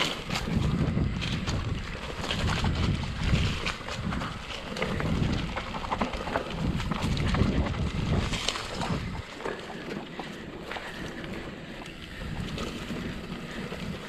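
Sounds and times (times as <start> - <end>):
bike rattling and clicking: 0.0 - 14.0
wind buffeting microphone: 0.0 - 14.0.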